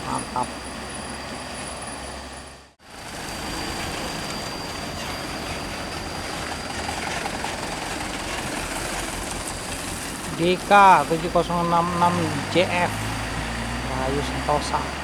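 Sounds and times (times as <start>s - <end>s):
heavy road vehicle running: 0.0s - 15.0s.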